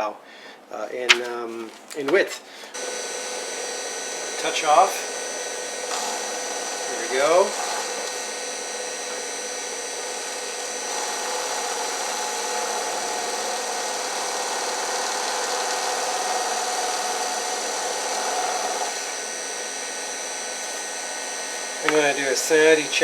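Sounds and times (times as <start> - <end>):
milling machine cutting metal: 2.8 - 23.0.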